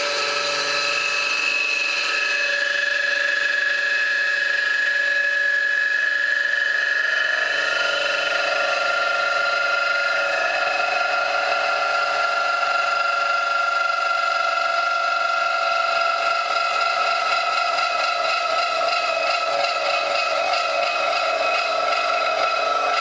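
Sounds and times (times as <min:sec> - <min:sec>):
mill cutting metal plate: 0:00.0 - 0:23.0.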